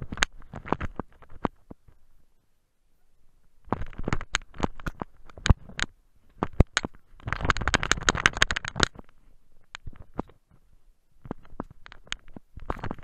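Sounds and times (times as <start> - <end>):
rubbing and bumping on camera: 0.0 - 2.0, 3.6 - 13.0.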